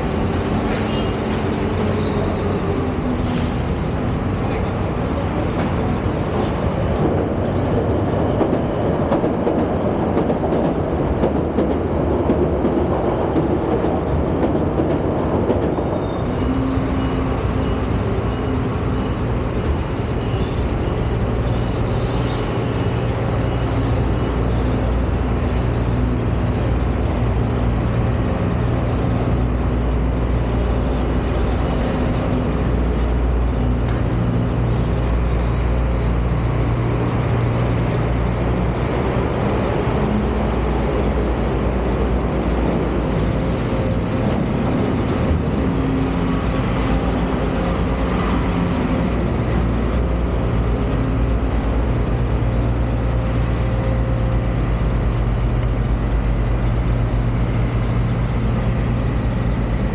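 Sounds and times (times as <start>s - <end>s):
train rumbling on tracks: 0.0s - 59.9s.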